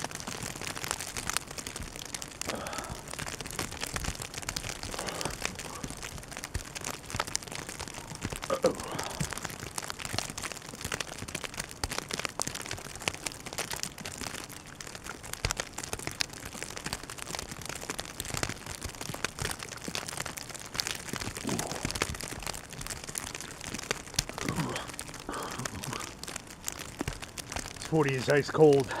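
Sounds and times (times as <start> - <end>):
crackling and pattering: 0.0 - 29.0.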